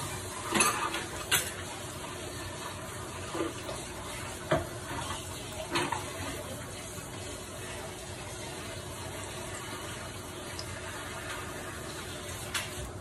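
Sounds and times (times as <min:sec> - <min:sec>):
sharp crackles of frying: 0:00.0 - 0:13.0.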